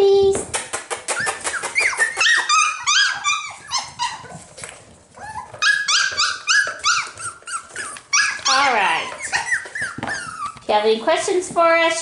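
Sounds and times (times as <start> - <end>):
puppies yipping and barking: 0.8 - 10.7.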